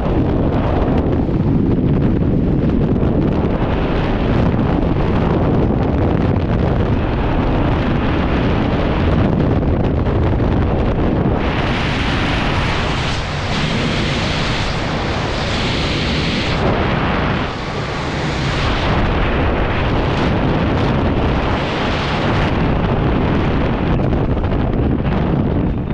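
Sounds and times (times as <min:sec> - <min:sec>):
wind roar on microphone: 0:00.0 - 0:25.9.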